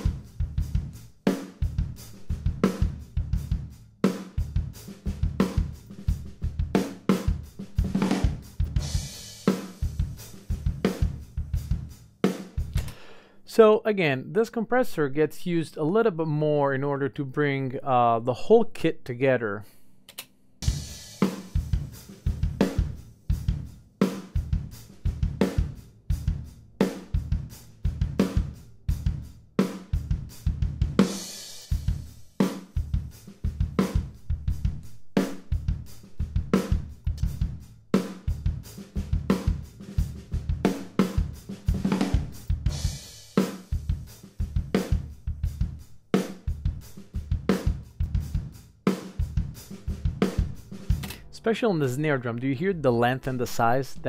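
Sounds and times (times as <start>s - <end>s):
drum kit playing a beat: 0.0s - 13.3s, 20.6s - 54.0s.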